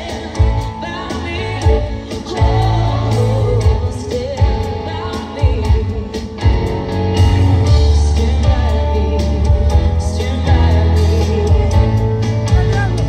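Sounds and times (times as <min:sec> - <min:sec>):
pop band track with bass beat: 0:00.0 - 0:13.0
woman singing into microphone: 0:00.0 - 0:13.0.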